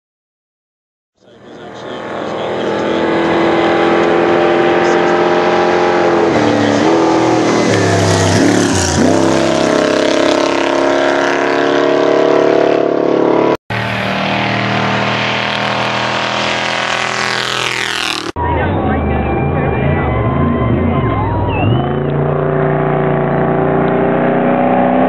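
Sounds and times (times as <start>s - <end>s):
race engine revving hard: 1.2s - 25.0s.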